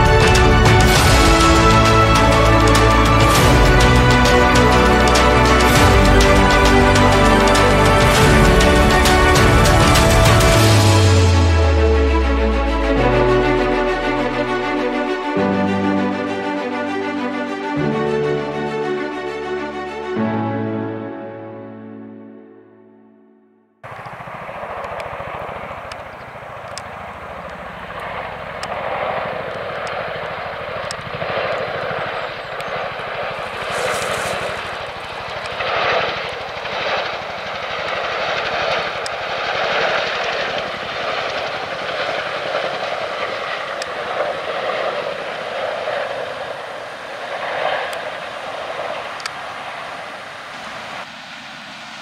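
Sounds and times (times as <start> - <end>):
helicopter rotor noise: 0.0 - 17.8, 23.8 - 52.0.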